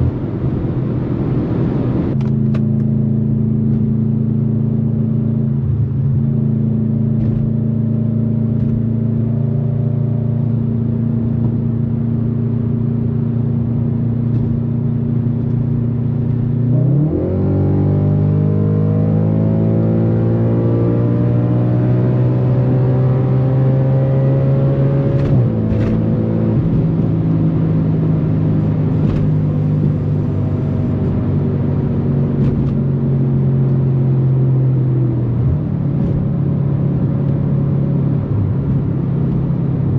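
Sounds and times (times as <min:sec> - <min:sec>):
car engine revving at speed: 0:00.0 - 0:39.9.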